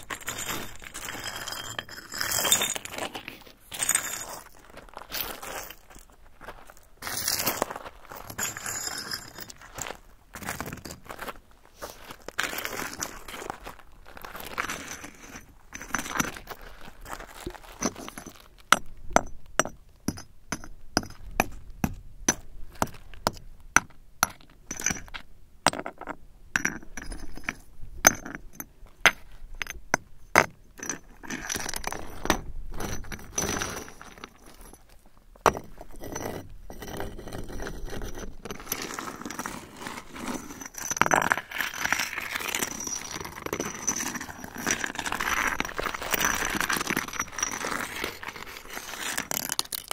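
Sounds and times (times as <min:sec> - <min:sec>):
crunching and scraping of stones: 0:00.0 - 0:49.9.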